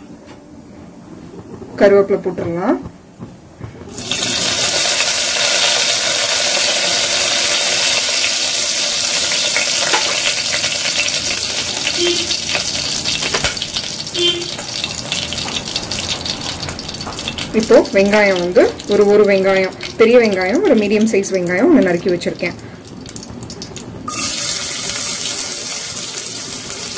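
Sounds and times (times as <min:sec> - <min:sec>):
oil sizzling and crackling: 0:03.9 - 0:26.9.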